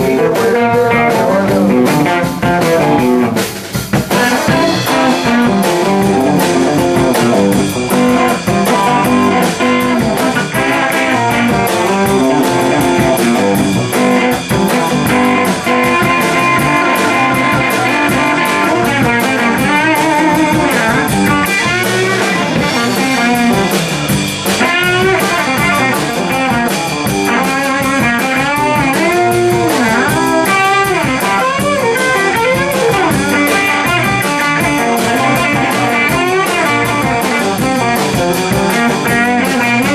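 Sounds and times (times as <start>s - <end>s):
blues-rock band playing: 0.0s - 39.9s
lead electric guitar bending notes: 0.0s - 39.9s.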